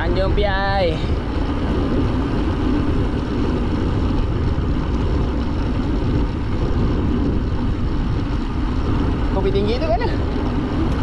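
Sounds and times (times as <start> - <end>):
tyre and road noise: 0.0 - 11.0
wind rushing over microphone: 0.0 - 11.0.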